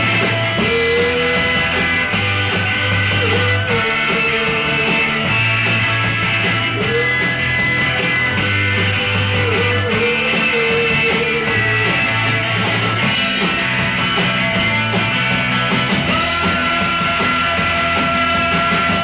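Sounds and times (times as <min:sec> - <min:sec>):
bass guitar: 0:00.0 - 0:19.0
drum beat: 0:00.0 - 0:19.0
electric guitars: 0:00.0 - 0:19.0.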